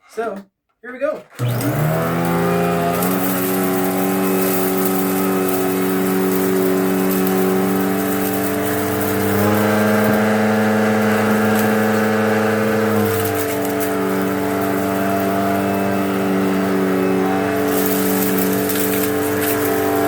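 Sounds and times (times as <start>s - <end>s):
debris crackling in vacuum: 1.4s - 20.0s
vacuum cleaner motor whine: 1.4s - 20.0s.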